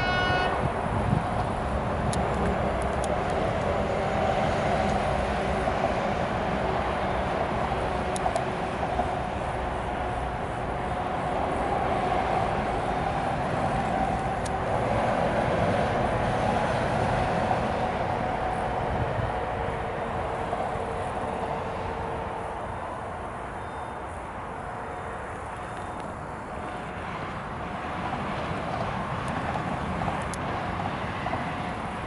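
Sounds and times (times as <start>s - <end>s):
freight train rumble: 0.0s - 32.0s
locomotive whine: 0.0s - 32.0s.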